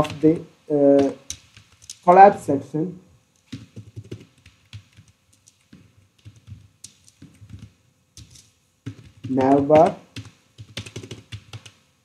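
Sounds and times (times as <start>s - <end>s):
keyboard typing: 0.0s - 2.1s, 3.4s - 11.8s.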